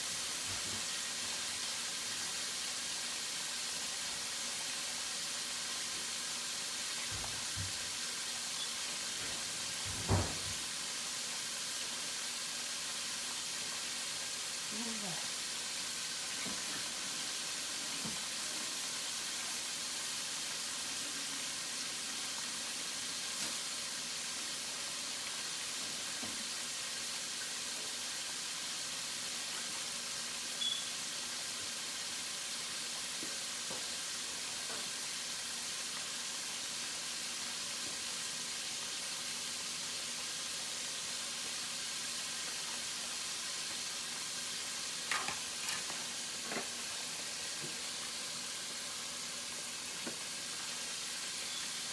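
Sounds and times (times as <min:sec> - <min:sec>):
chicken wings frying in oil: 0:00.0 - 0:51.9.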